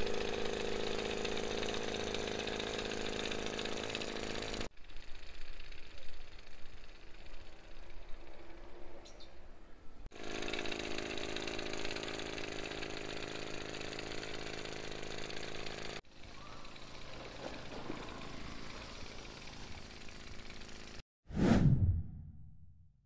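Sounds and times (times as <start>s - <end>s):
power sprayer engine running: 0.0s - 7.8s, 10.2s - 21.0s.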